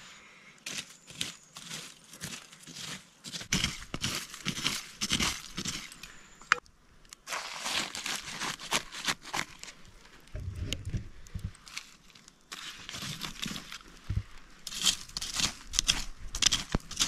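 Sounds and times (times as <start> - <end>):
sharp crackles of embers: 0.1 - 17.0
leaves rustling and crinkling: 0.6 - 6.3, 6.9 - 17.0.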